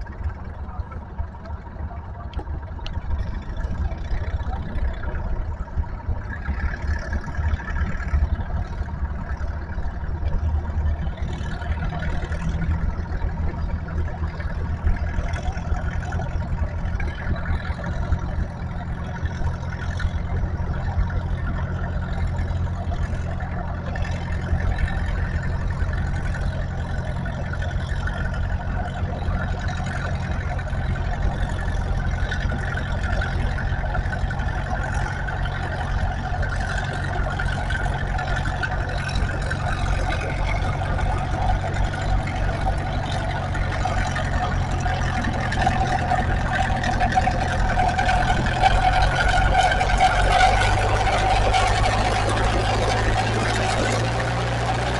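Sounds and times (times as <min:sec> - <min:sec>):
higher-pitched engine note: 0:00.0 - 0:54.9
tractor engine running hard: 0:00.0 - 0:54.9.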